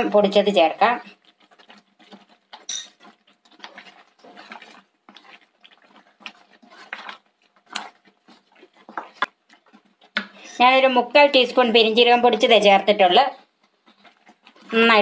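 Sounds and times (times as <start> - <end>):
spatula stirring thick gravy: 0.0 - 15.0.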